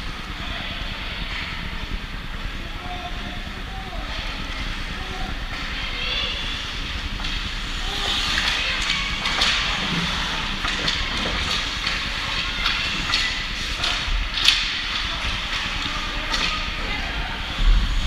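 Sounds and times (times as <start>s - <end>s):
crowd and players hubbub: 0.0s - 18.0s.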